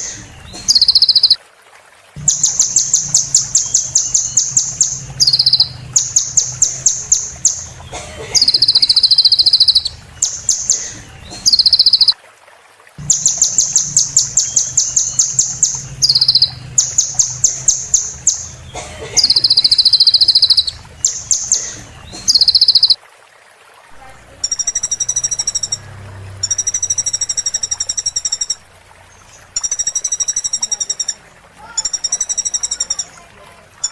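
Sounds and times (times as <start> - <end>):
sunbird song: 0.0 - 1.4, 2.2 - 12.2, 13.0 - 23.0, 24.4 - 31.2.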